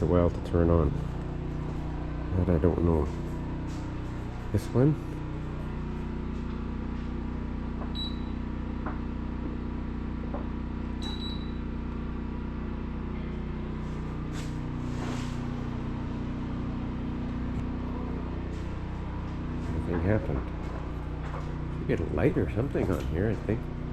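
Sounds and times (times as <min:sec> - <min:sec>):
electrical hum: 0:00.0 - 0:23.9.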